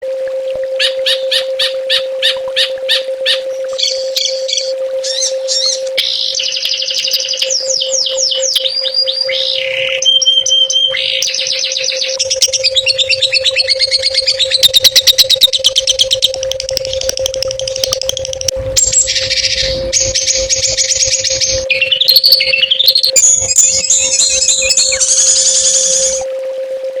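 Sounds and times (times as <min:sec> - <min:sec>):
steady low hum: 0:00.6 - 0:26.3
songbird singing: 0:00.8 - 0:26.2.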